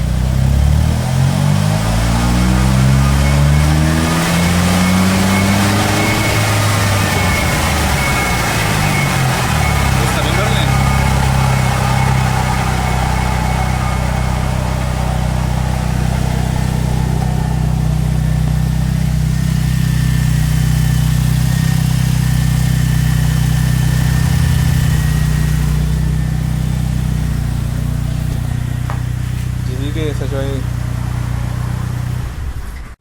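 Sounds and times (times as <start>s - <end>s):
car engine running: 0.0s - 33.0s
wheel bearing droning: 0.0s - 33.0s.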